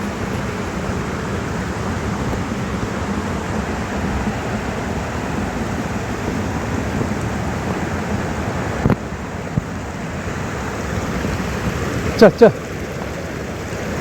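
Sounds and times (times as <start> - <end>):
stream rushing: 0.0 - 14.0.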